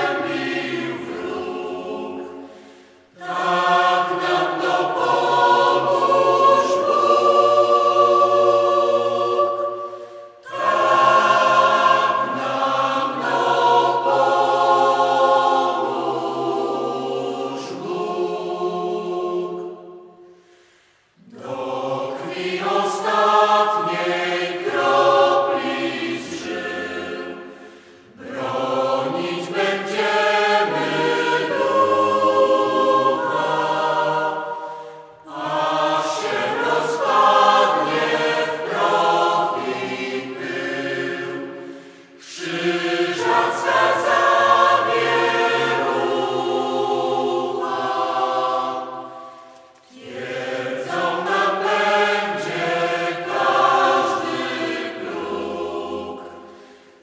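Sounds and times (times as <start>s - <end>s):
choir singing held chords: 0.0s - 57.0s.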